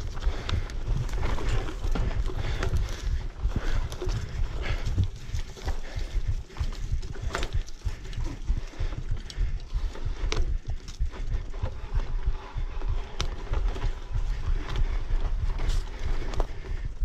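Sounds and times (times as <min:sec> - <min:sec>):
bike rattling over bumps: 0:00.0 - 0:17.0
wind buffeting microphone: 0:00.0 - 0:17.0.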